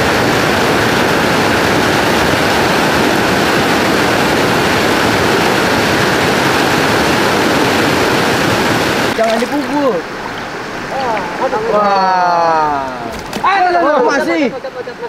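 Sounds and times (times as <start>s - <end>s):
river rushing over boulders: 0.0s - 15.0s.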